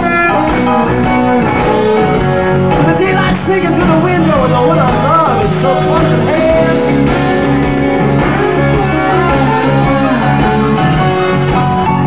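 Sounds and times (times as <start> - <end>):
lead guitar with bent notes: 0.0 - 12.0
live blues-rock band: 0.0 - 12.0.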